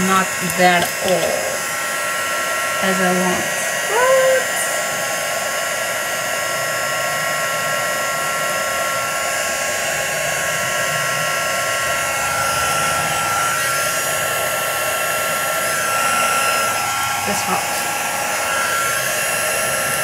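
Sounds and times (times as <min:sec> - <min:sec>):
heat gun blowing air: 0:00.0 - 0:20.0.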